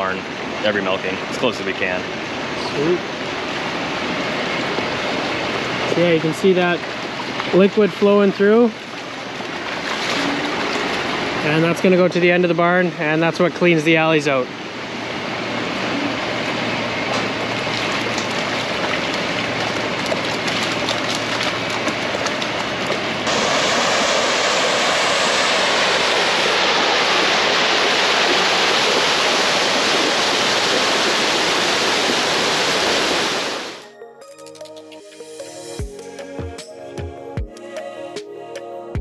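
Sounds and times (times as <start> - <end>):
water rushing down an alley: 0.0 - 33.8.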